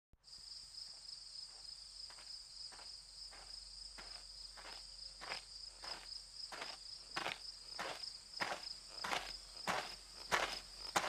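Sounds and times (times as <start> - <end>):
crickets chirring: 0.2 - 11.0
slow footsteps approaching: 0.9 - 11.0.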